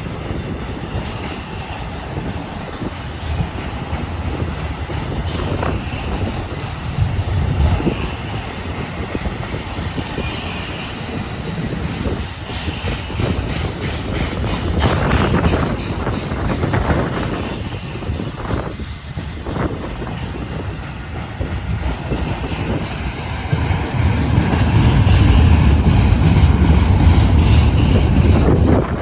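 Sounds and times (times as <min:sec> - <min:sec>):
freight train rolling past: 0:00.0 - 0:29.0
wind gusting on microphone: 0:00.0 - 0:29.0.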